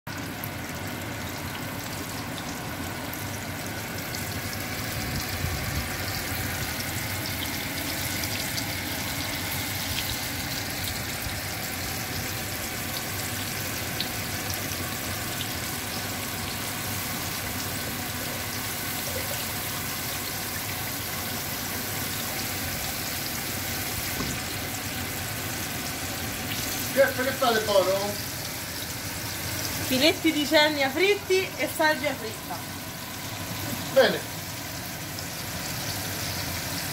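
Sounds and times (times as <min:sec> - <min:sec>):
fish sizzling in hot oil: 0:00.1 - 0:36.9.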